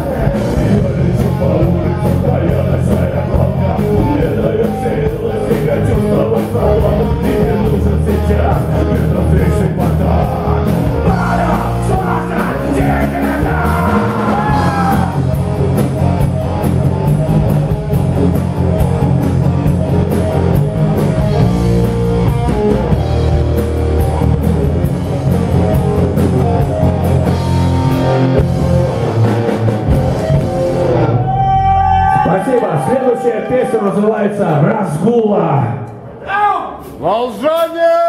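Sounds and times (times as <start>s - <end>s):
drum kit with cymbals: 0.0s - 31.4s, 36.7s - 37.8s
electric guitar: 0.0s - 32.4s
bass guitar: 0.0s - 36.1s.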